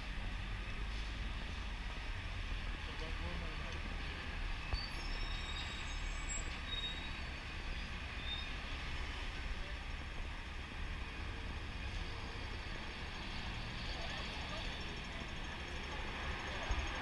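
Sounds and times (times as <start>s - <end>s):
rumble of passing traffic: 0.0s - 17.0s.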